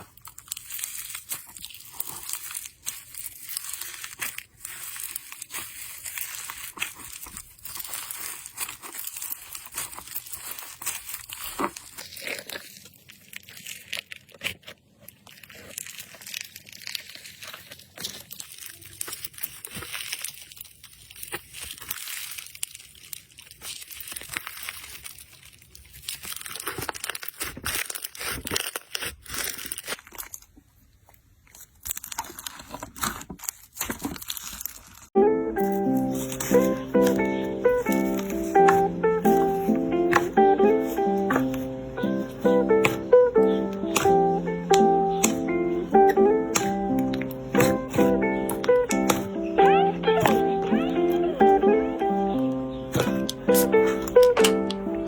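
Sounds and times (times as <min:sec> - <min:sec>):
slime crackling and popping: 0:00.0 - 0:55.0.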